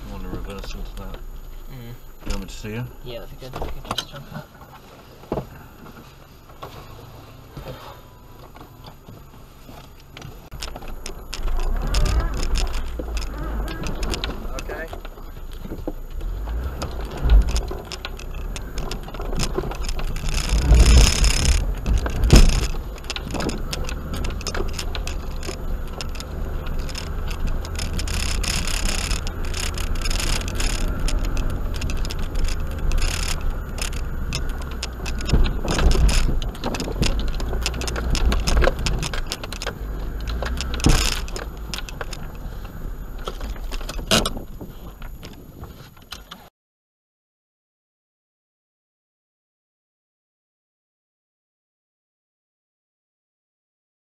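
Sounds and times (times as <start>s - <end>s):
car engine rumble: 0.0s - 46.5s
vehicle knocks and rattles: 0.0s - 46.5s.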